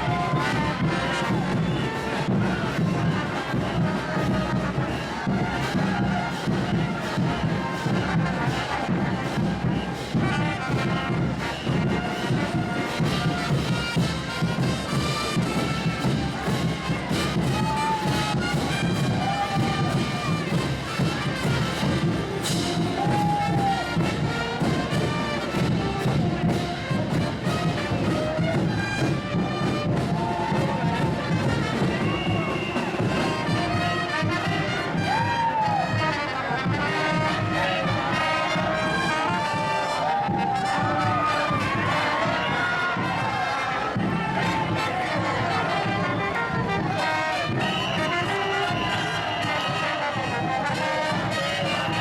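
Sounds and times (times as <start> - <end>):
brass band music: 0.0 - 52.0.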